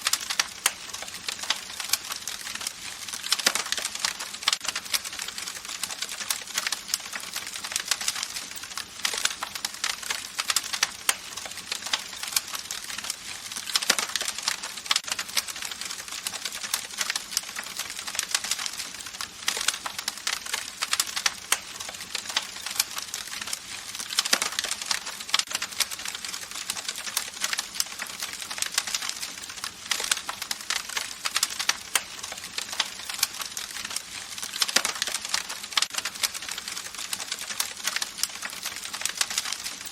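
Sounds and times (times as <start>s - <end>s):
campfire crackling: 0.0s - 39.9s
fire pops: 0.1s - 39.8s.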